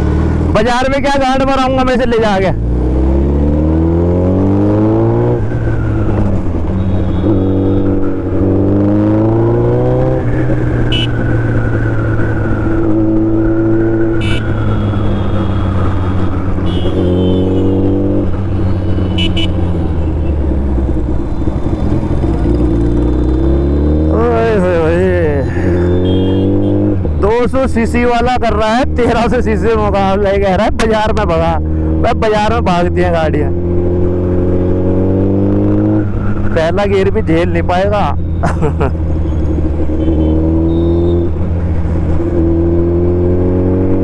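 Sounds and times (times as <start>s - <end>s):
motorcycle engine revving: 1.5s - 27.2s, 30.9s - 44.0s.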